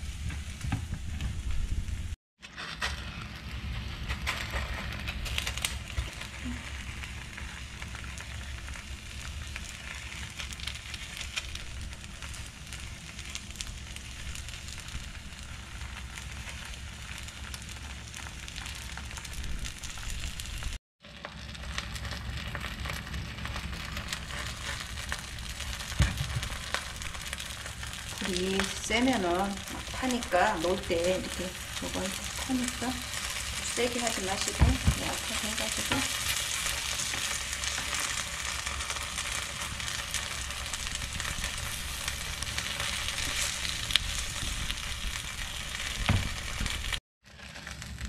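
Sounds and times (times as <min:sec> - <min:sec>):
battered leaves sizzling in oil: 0:00.0 - 0:48.0.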